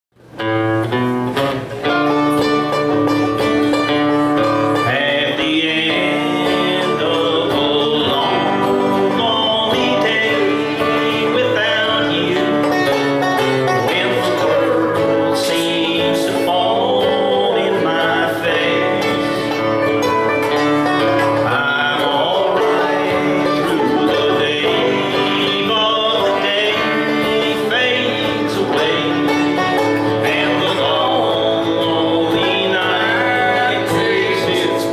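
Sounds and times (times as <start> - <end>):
acoustic guitar strumming: 0.2 - 34.9
banjo picking: 0.2 - 34.9.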